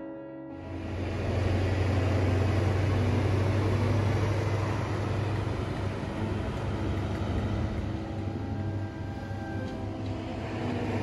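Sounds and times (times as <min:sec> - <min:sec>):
deep diesel engine drone: 0:00.5 - 0:11.0
train rumble: 0:00.6 - 0:11.0.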